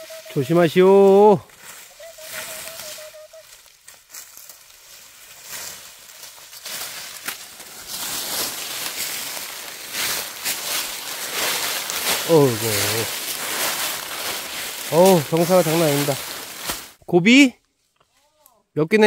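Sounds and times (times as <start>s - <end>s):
footsteps crunching through dry leaves: 0.0s - 17.0s.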